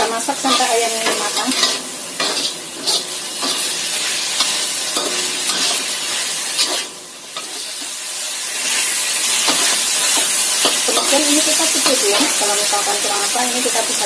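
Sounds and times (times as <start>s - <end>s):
chicken sizzling in a wok: 0.0s - 14.0s
metal spatula scraping a wok: 0.0s - 14.0s.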